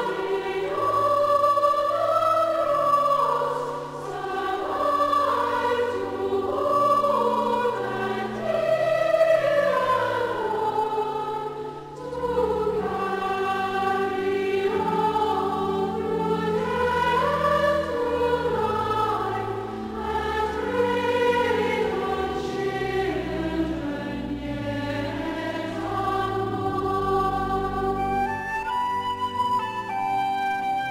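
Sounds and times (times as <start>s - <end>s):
congregation singing a hymn: 0.0s - 30.0s.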